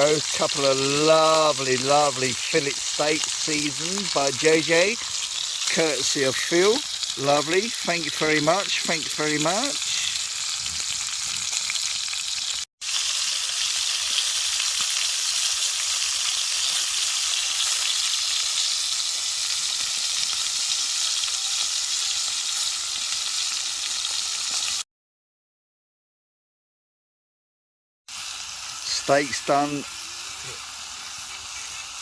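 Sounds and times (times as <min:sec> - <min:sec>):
steaks sizzling: 0:00.0 - 0:24.8, 0:28.1 - 0:32.0.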